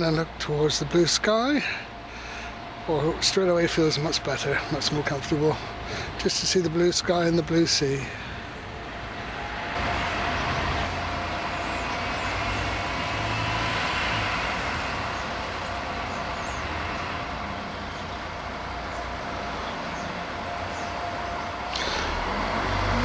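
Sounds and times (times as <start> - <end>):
large vehicle engine running: 0.0 - 23.0
thin whine: 0.0 - 23.0.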